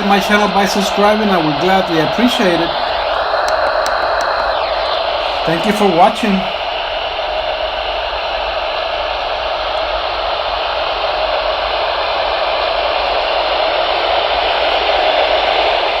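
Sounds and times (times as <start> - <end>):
sleep machine hiss: 0.0 - 16.0.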